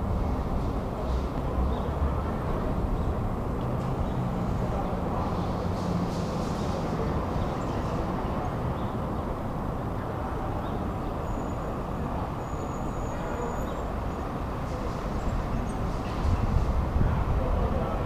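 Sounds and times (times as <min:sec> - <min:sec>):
city street traffic hum: 0:00.0 - 0:18.0.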